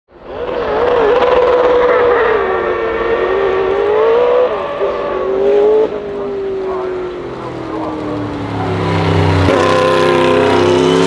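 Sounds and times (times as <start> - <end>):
race car engine revving: 0.2 - 11.0.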